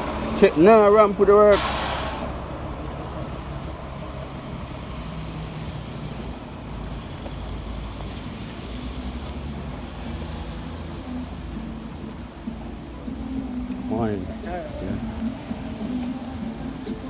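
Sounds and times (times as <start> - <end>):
heavy vehicle engine humming: 0.0 - 17.0
road noise: 0.0 - 17.0.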